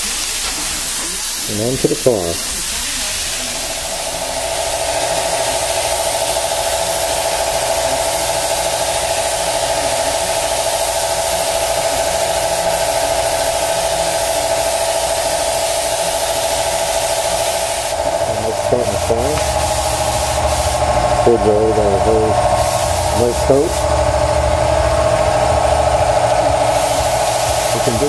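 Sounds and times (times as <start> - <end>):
paint spray gun hissing: 0.0 - 28.0.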